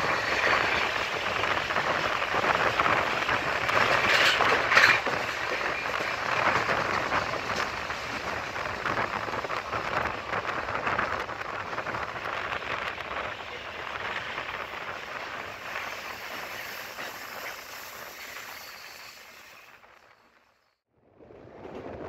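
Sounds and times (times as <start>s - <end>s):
wheel-on-rail noise: 0.0s - 20.8s.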